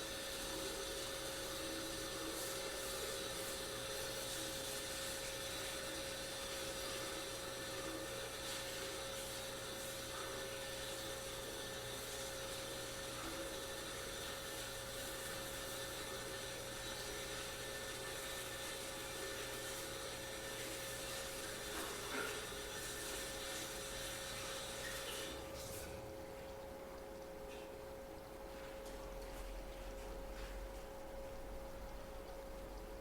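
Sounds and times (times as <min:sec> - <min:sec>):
circulating water hiss: 0:00.0 - 0:28.8
aquarium pump hum: 0:00.0 - 0:33.0.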